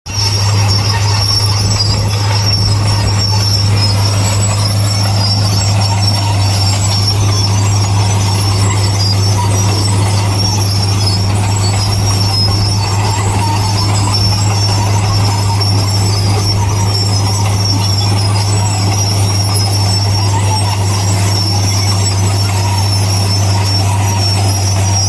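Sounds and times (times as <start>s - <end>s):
deep engine drone: 0.0s - 25.0s
thin high squeal: 0.1s - 25.0s.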